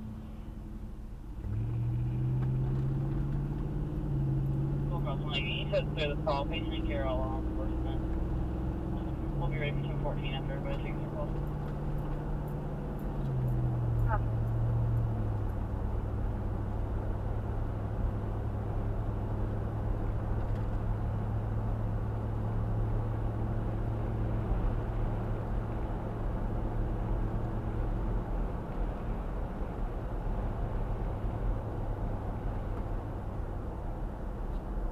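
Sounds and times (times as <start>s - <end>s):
road noise inside vehicle: 0.0s - 34.9s
vehicle engine hum: 0.0s - 34.9s.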